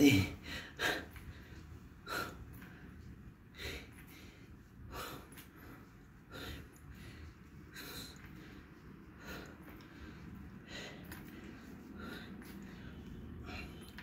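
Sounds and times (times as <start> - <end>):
man breathing sharply through nose: 0.4 - 14.0.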